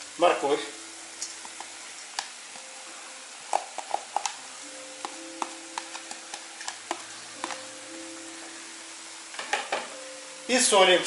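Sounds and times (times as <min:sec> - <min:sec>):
meat and onion sizzling: 0:00.0 - 0:11.0.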